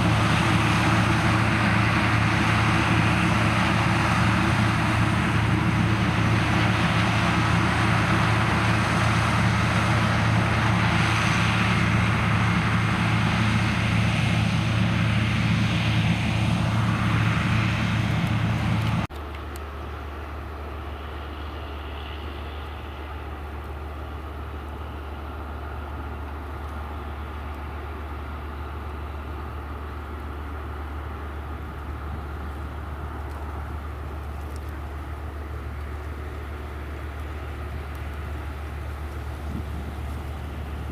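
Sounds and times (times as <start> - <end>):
harvest machinery engine drone: 0.0 - 40.9.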